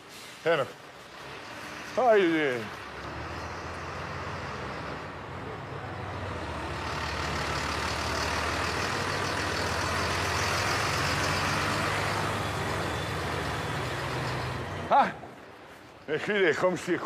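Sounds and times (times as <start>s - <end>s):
truck engine running: 1.0s - 14.9s.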